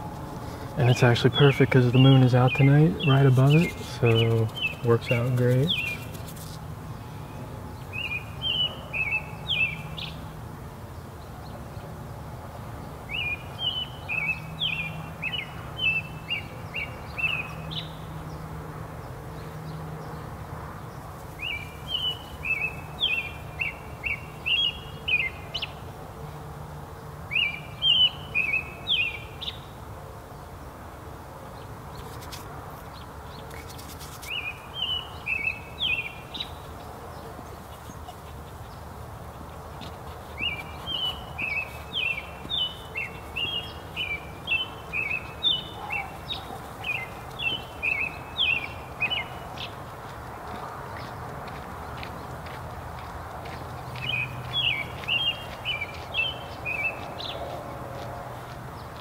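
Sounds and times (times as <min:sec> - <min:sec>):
songbird chirping: 0:00.1 - 0:06.4, 0:07.0 - 0:10.3, 0:13.0 - 0:18.6, 0:19.3 - 0:25.9, 0:27.2 - 0:29.8, 0:31.5 - 0:59.0.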